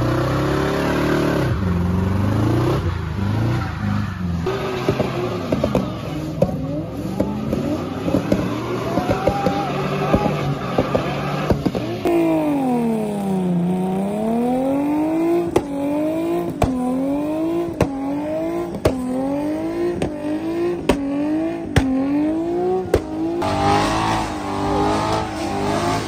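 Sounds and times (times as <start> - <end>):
car engine revving high: 0.0 - 26.0.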